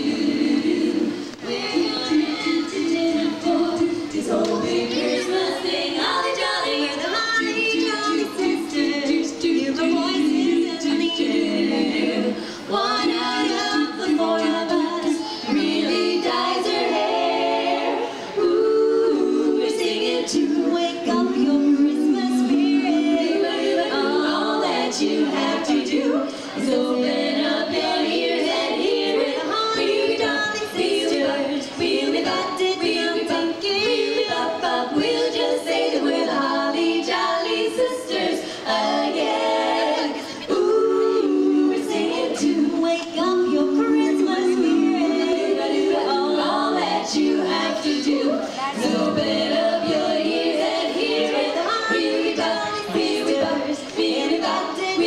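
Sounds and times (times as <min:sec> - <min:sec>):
women singing a cappella in harmony: 0:00.0 - 0:55.0.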